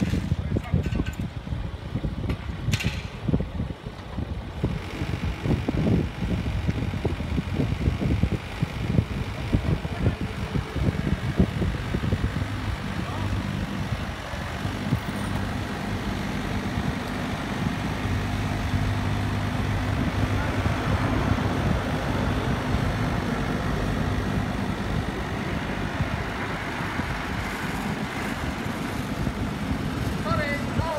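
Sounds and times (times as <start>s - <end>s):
construction site noise: 0.0s - 30.9s
excavator diesel engines humming: 3.7s - 30.9s.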